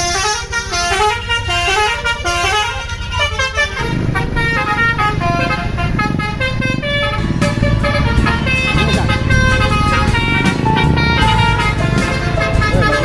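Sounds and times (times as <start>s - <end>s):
heavy engine rumble: 0.0s - 13.0s
multi-tone bus horn melody: 0.0s - 13.0s
road noise: 0.0s - 13.0s.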